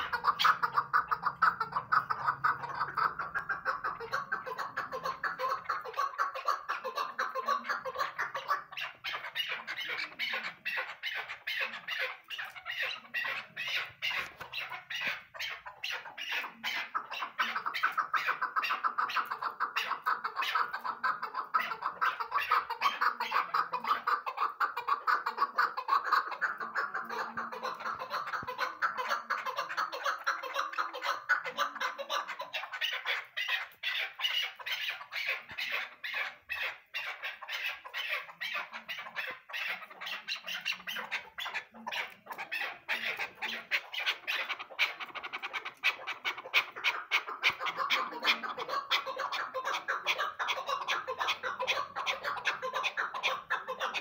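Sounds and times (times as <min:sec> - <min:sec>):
partridges calling: 0:00.0 - 0:54.0.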